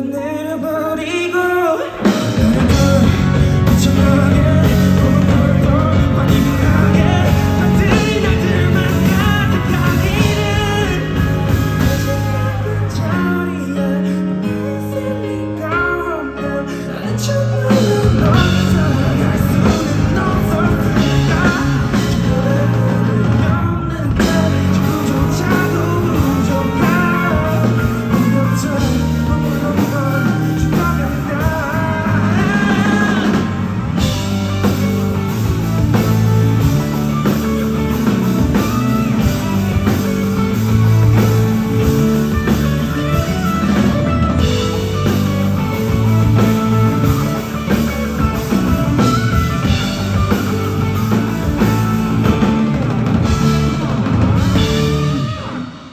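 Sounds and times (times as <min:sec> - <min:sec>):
pop-rock song over sound system: 0:00.0 - 0:55.9.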